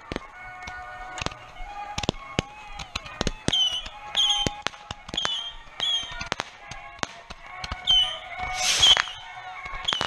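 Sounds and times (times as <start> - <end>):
firecrackers banging and popping: 0.0 - 10.0.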